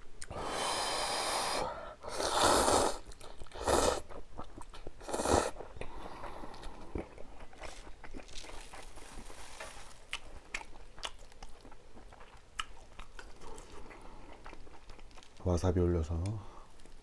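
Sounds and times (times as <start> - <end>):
person biting and chewing food: 0.0 - 15.4.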